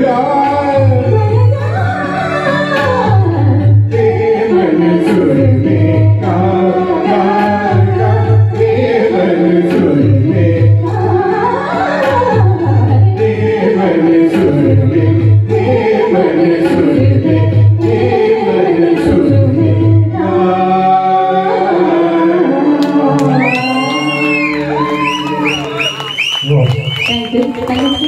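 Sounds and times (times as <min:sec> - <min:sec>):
woman singing through microphone: 0:00.0 - 0:25.9, 0:27.1 - 0:28.0
recorded accompaniment with pulsing bass: 0:00.0 - 0:28.0.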